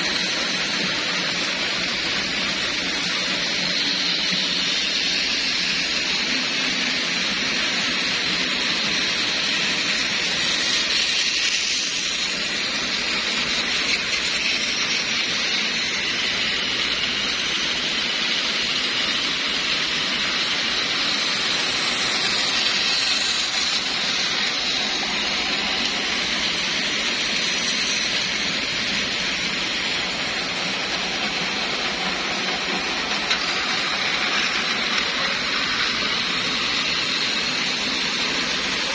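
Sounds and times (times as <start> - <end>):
toy train motors whirring: 0.0 - 38.9.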